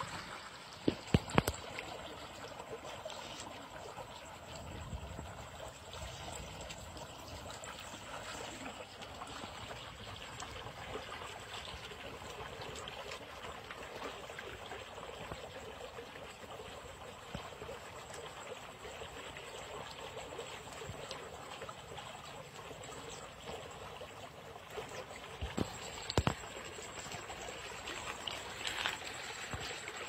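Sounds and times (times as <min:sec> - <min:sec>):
water rushing and splashing: 0:00.0 - 0:30.0.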